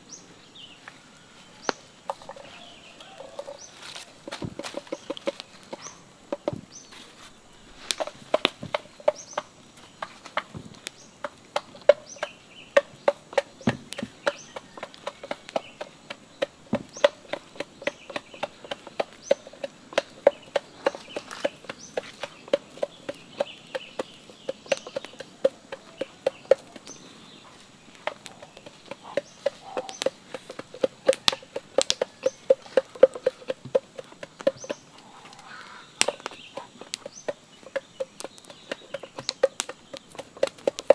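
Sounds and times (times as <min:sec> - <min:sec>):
pestle pounding in bamboo mortar: 0:02.1 - 0:06.8, 0:07.9 - 0:40.9.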